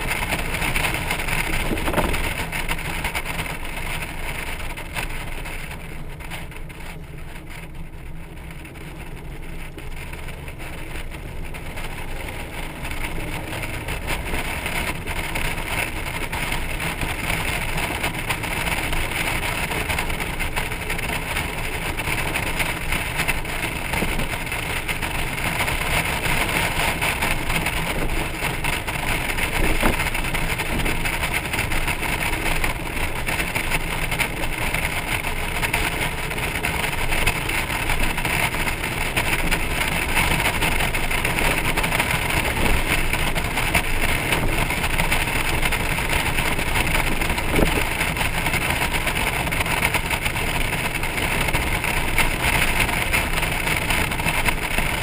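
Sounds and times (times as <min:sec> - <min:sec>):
motorcycle road and wind noise: 0:00.0 - 0:55.0.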